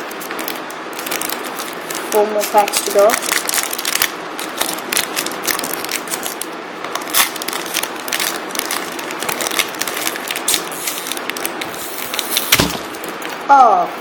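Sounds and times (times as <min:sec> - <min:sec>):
foil tearing: 0:00.0 - 0:13.1
foil wrapper crinkling: 0:00.0 - 0:13.4.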